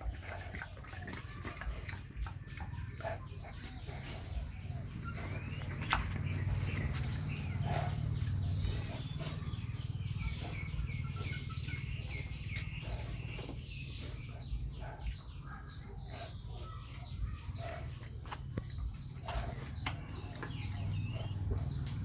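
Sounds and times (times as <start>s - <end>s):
chickens clucking and chirping: 0.0s - 22.0s
steady low hum: 0.0s - 22.0s.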